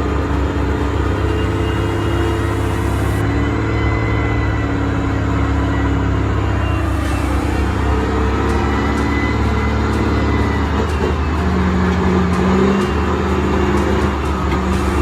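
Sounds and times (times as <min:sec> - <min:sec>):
truck engine running under load: 0:00.0 - 0:15.0.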